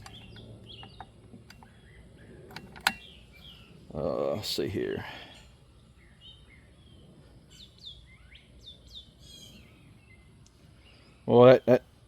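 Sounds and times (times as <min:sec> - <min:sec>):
faint bird chirps: 0:00.0 - 0:11.6
low background noise: 0:00.0 - 0:12.0.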